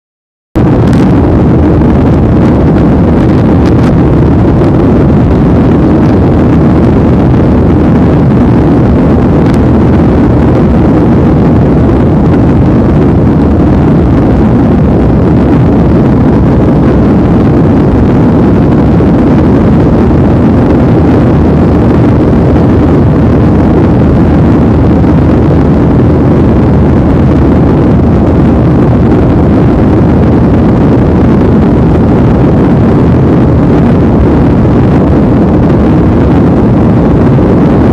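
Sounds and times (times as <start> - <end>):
airliner cabin rumble: 0.6 - 37.9.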